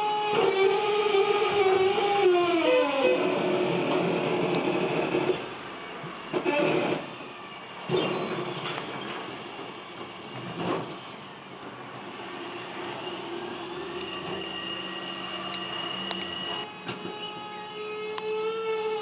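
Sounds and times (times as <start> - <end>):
bin truck metal squealing: 0.0 - 19.0.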